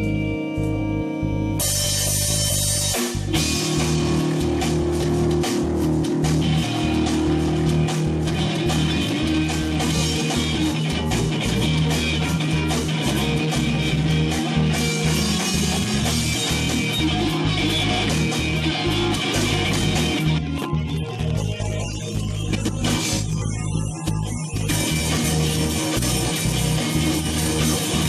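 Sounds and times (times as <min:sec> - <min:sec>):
distorted electric guitars: 0:00.0 - 0:28.0
drum kit: 0:00.0 - 0:28.0.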